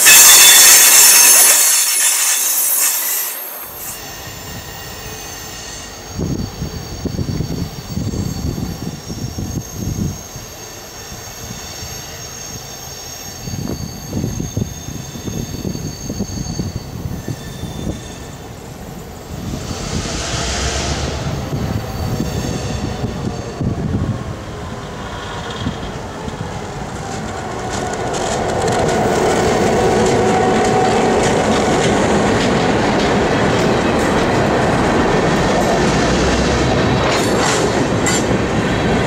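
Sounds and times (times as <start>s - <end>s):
wheels squealing on rails: 0.0s - 39.0s
low train rumble: 3.3s - 39.0s.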